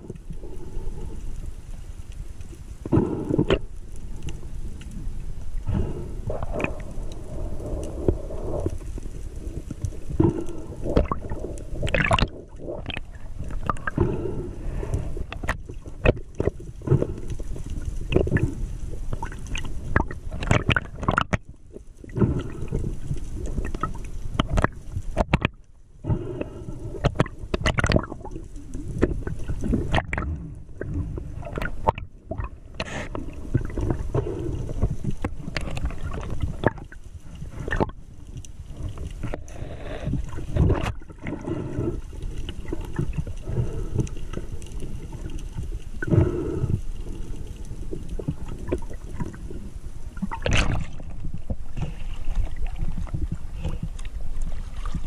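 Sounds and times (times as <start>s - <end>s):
underwater gurgling and sloshing: 0.0s - 55.0s.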